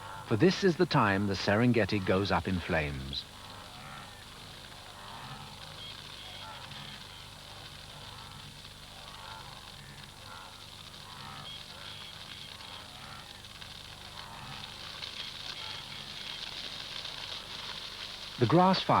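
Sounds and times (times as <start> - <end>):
grass fire crackling: 0.0 - 19.0.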